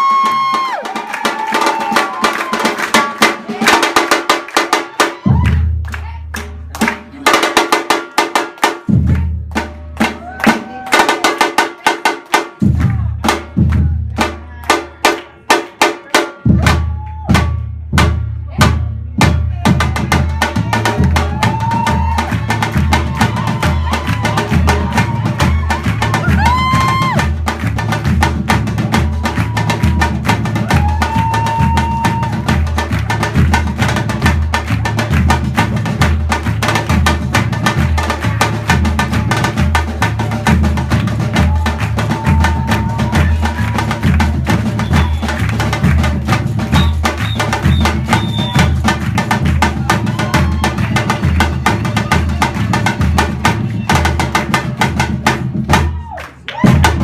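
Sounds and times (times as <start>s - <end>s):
rapid drum strikes: 0.0s - 5.8s, 6.4s - 57.0s.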